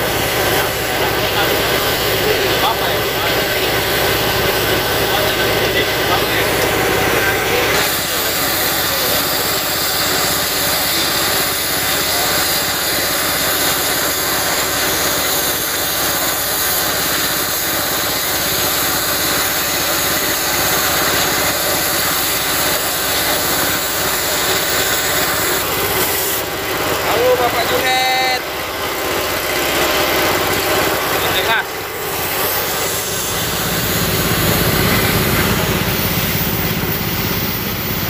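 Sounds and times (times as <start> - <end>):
cutting torch hissing: 0.0 - 38.0
engine running: 0.0 - 38.0.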